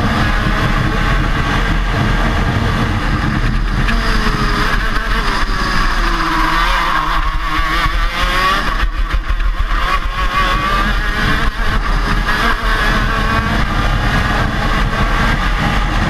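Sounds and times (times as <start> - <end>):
wind rumble on microphone: 0.0 - 6.2, 7.3 - 16.0
kart engine running at racing speed: 0.0 - 16.0.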